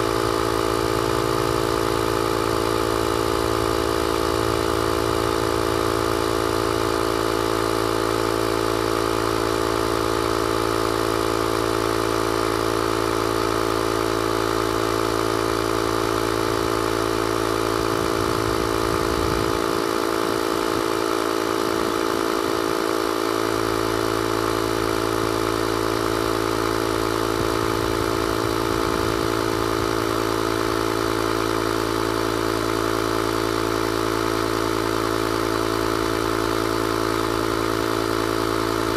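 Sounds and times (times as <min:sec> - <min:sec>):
air compressor motor drone: 0:00.0 - 0:38.9.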